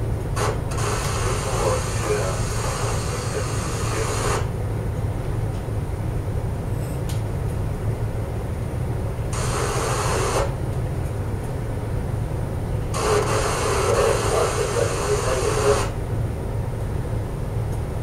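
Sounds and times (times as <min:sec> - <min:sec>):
low machinery drone: 0:00.0 - 0:18.0.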